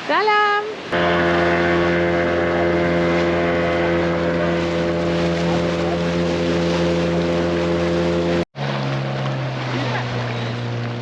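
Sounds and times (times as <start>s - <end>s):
boat motor humming: 0.8s - 11.0s.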